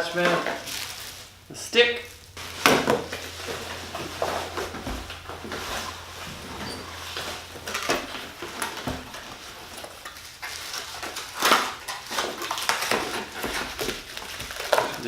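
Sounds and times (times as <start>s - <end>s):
plastic parts knocking and clattering: 0.0s - 1.2s, 2.4s - 15.0s.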